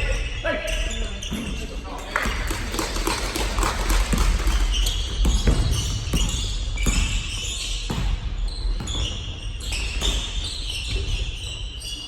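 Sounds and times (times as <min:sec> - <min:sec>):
sneakers squeaking: 0:00.0 - 0:12.0
basketball bouncing on gym floor: 0:01.2 - 0:11.6.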